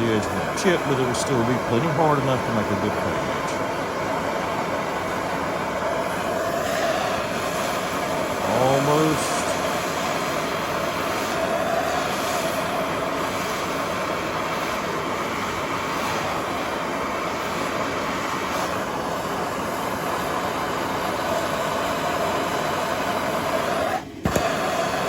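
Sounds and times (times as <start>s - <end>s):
gas torch flame burning: 0.0s - 25.0s.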